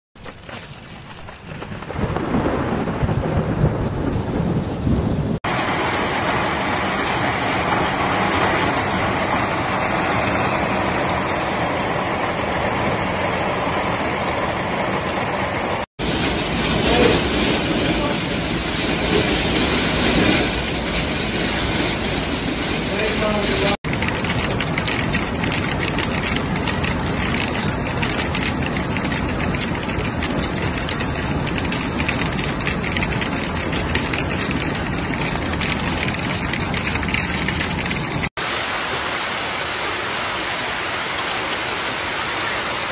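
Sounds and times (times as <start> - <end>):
hail and heavy rain: 0.2 - 13.6, 16.0 - 42.9
low thunder rumble: 0.8 - 13.5, 16.0 - 38.3.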